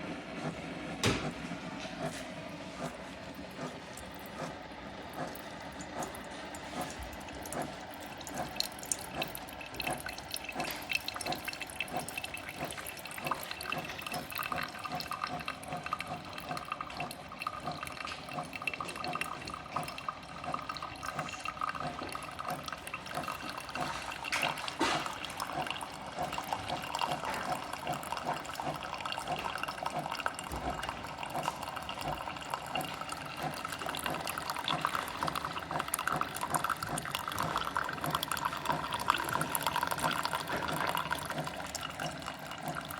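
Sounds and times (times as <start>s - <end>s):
coffee stream pouring into cup: 3.2s - 42.9s.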